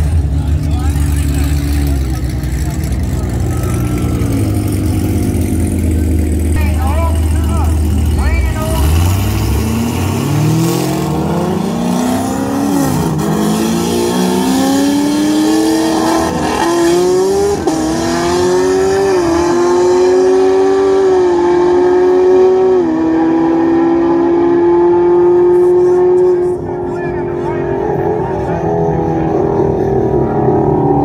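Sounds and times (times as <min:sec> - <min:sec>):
race car engines accelerating: 0:00.0 - 0:31.0.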